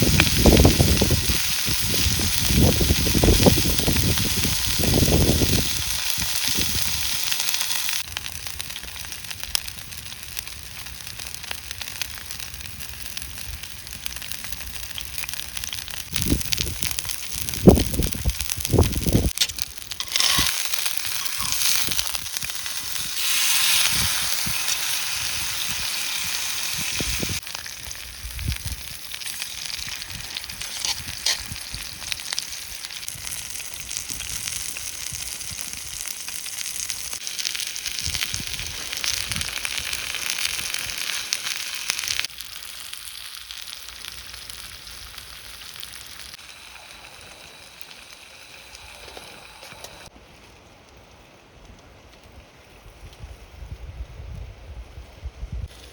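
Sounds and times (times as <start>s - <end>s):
meat sizzling over wood fire: 0.0s - 50.1s, 55.0s - 55.9s
fire crackling: 0.0s - 55.9s.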